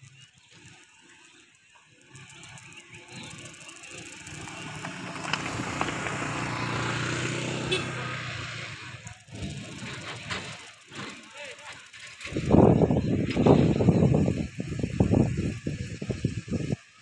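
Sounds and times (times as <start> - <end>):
vehicle engine approaching: 0.0 - 16.8.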